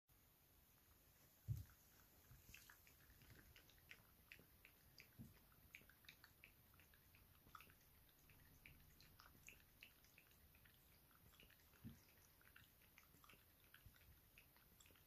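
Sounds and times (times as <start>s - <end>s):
dog lapping milk: 1.5s - 15.0s.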